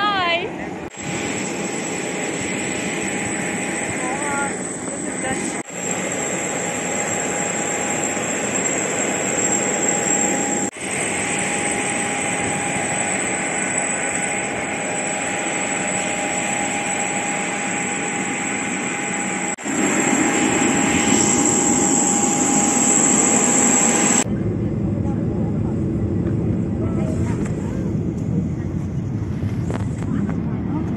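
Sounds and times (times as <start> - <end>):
jet turbines running with high whine: 0.0 - 30.9.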